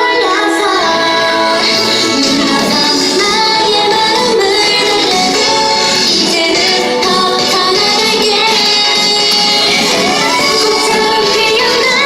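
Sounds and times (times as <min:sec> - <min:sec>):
loud pop music: 0:00.0 - 0:12.0.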